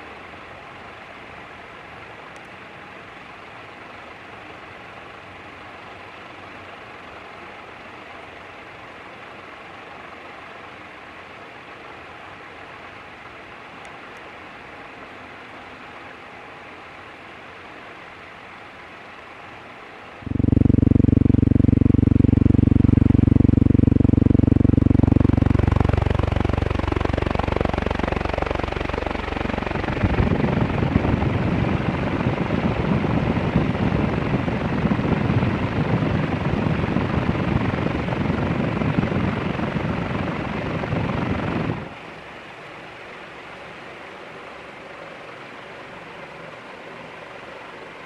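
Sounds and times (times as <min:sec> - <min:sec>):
ceiling fan motor hum: 0:00.0 - 0:48.0
fluttering rumble of fan blades: 0:00.0 - 0:48.0.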